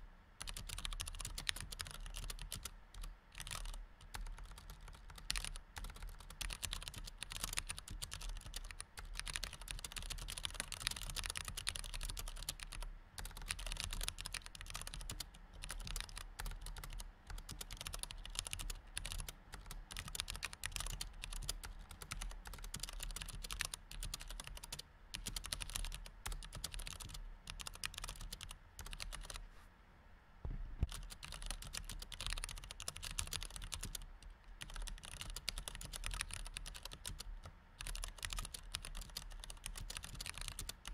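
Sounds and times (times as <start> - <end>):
typing on computer keyboard: 0.4 - 29.4, 30.8 - 40.9.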